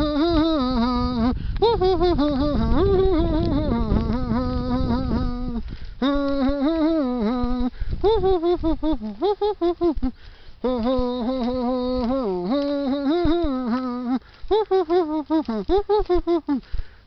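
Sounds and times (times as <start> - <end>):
person singing wordless tune: 0.0 - 16.9.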